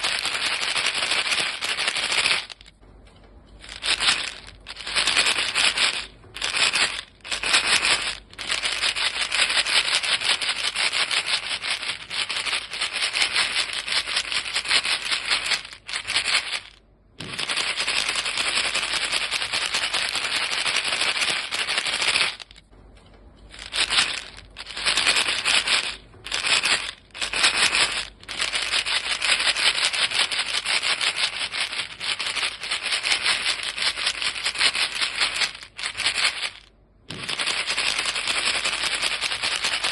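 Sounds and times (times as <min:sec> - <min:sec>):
gum pellets rattling in box: 0:00.0 - 0:02.8, 0:03.6 - 0:22.7, 0:23.5 - 0:39.9.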